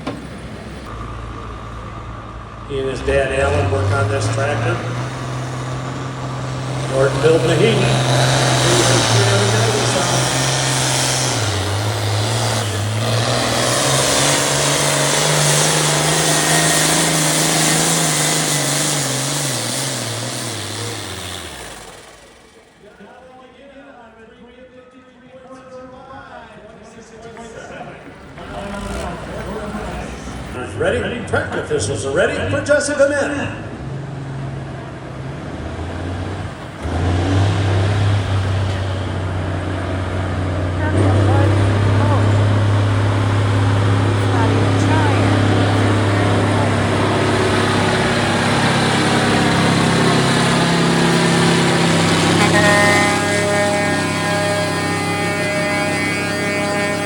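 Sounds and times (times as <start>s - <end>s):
tractor engine revving hard: 0.0s - 23.0s, 28.0s - 31.0s, 33.6s - 57.0s.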